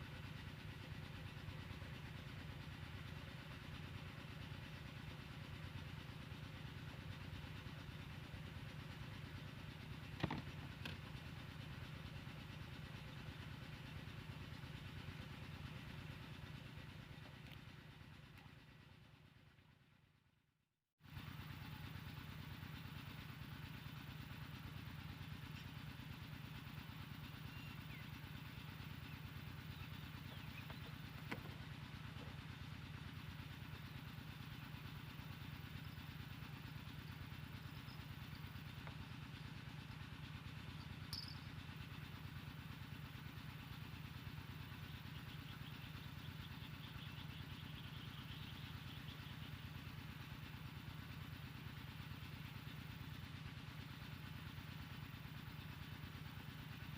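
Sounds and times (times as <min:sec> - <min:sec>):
engine running: 0:00.0 - 0:20.4, 0:21.0 - 0:56.9.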